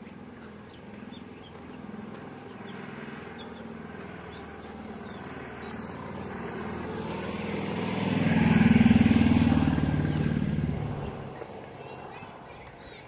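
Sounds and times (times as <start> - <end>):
vehicle engine passing by: 0.0 - 12.6.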